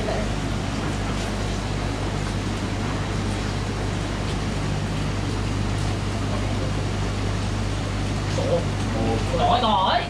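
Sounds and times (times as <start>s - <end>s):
motor running with low drone: 0.0s - 10.0s.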